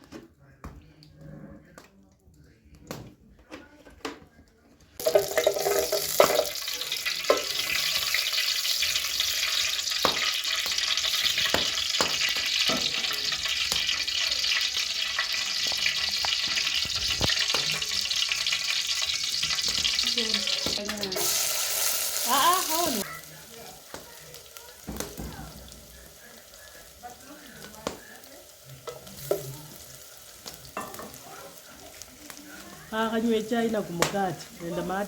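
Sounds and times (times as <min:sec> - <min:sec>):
food sizzling in a pan: 0:05.0 - 0:35.0.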